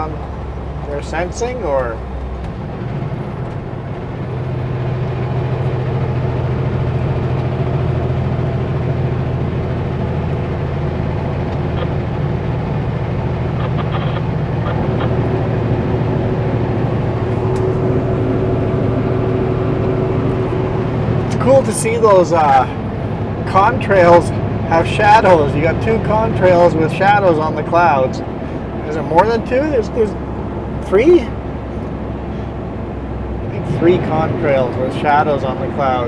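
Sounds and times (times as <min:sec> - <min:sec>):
road noise: 0:00.0 - 0:36.0
truck diesel engine running: 0:00.0 - 0:36.0.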